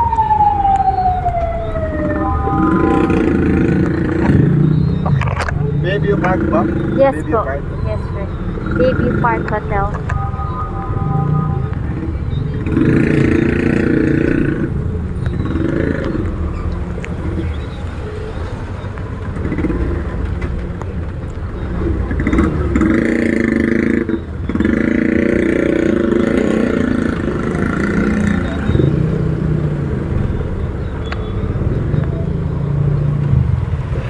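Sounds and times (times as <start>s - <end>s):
vehicle engine rumble: 0.0s - 34.0s.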